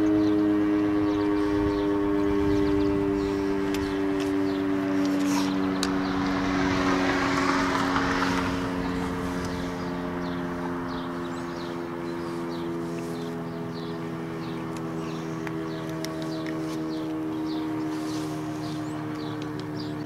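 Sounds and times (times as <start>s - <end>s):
passing car: 0.0s - 20.0s
warning siren chord: 0.0s - 20.0s.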